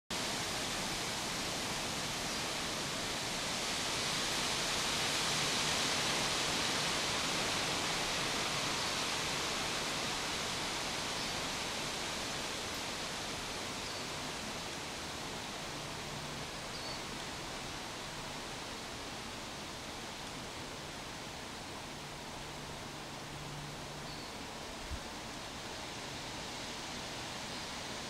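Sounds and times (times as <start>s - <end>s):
steady outdoor hiss: 0.1s - 28.0s.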